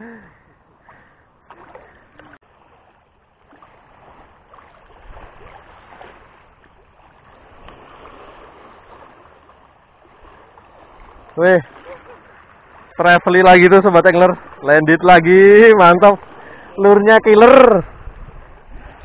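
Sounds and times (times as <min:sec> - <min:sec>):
seawater lapping and splashing: 0:00.0 - 0:19.0.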